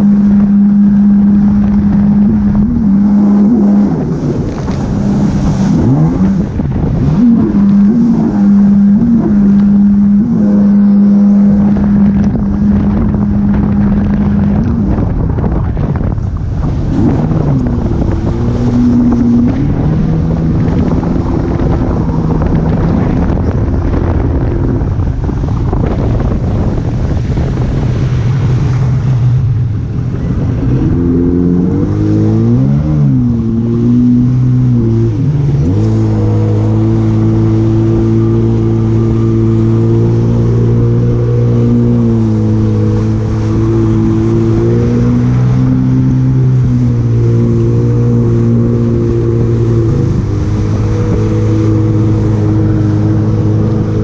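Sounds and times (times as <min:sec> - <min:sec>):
jet ski engine running: 0:00.0 - 0:54.0
water rushing: 0:00.0 - 0:54.0
wind: 0:00.0 - 0:54.0.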